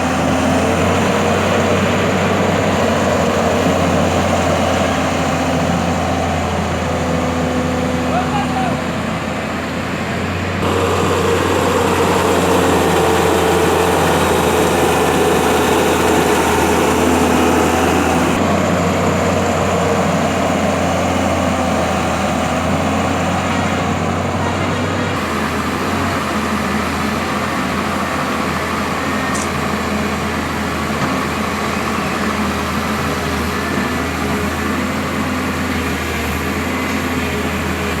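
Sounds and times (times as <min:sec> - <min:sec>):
heavy vehicle engine running: 0:00.0 - 0:38.0.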